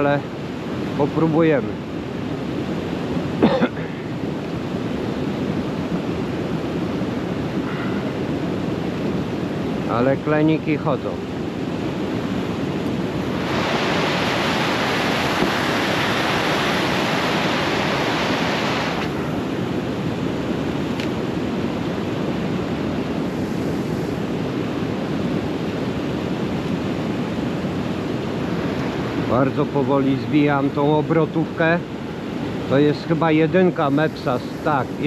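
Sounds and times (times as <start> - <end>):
river water roaring: 0.0 - 35.0.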